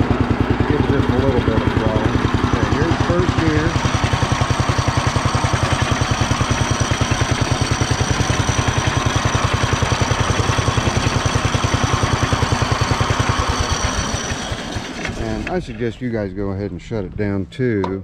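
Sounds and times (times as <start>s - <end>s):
tractor engine chugging: 0.0s - 16.2s.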